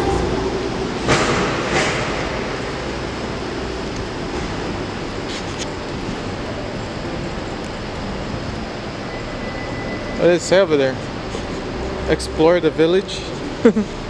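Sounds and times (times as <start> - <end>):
parking garage rumble: 0.0 - 14.0.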